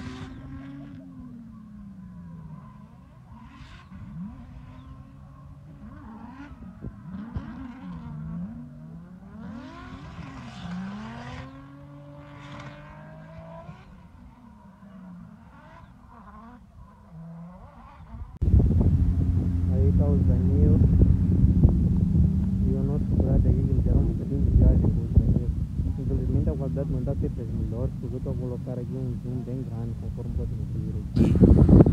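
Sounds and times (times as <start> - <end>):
distant car engines revving: 0.0 - 31.9
loud car engine close by: 0.0 - 31.9.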